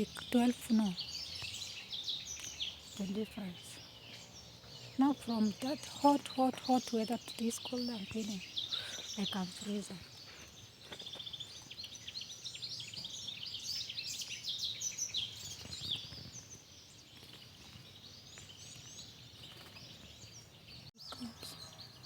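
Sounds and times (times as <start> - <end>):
birds chirping and singing: 0.0 - 22.0.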